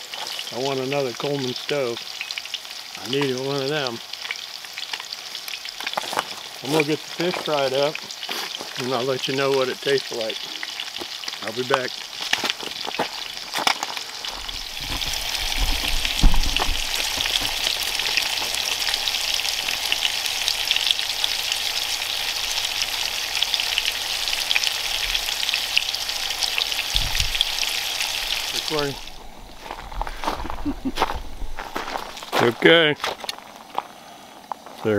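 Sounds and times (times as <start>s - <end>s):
fish sizzling in hot oil: 0.0s - 32.9s.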